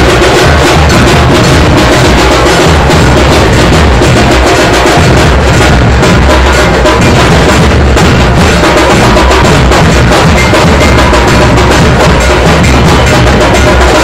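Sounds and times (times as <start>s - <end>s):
deep dhol drum strokes: 0.0s - 14.0s
rapid sharp tasha strikes: 0.0s - 14.0s.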